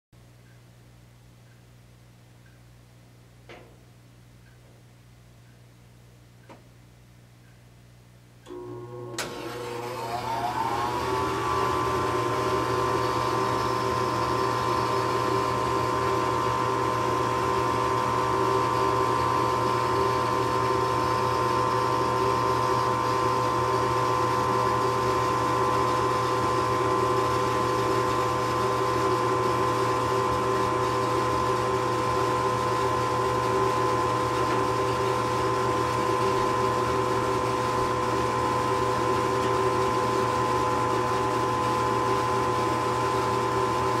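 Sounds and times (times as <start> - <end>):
furnace motor whine: 8.4 - 44.0.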